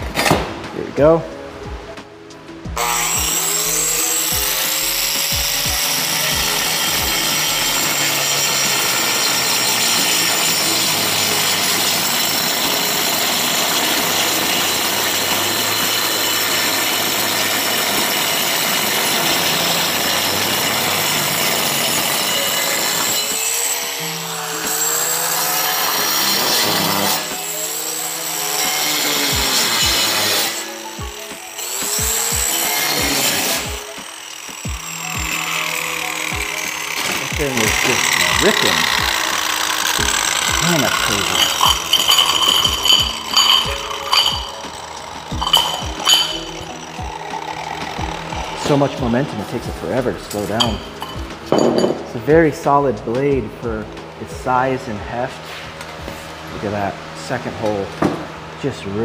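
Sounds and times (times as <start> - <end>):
angle grinder cutting tile: 2.8 - 52.8.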